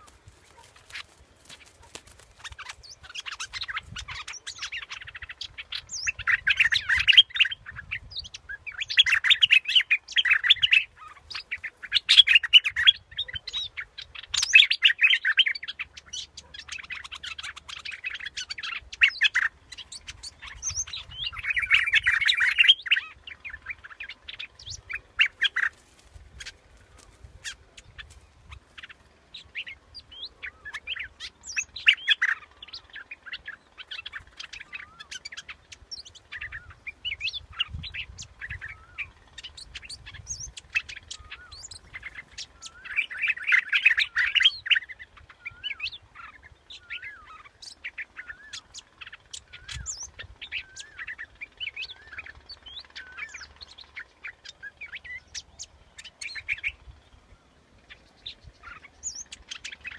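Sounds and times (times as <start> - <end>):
bird chirping and warbling: 0.0 - 59.9.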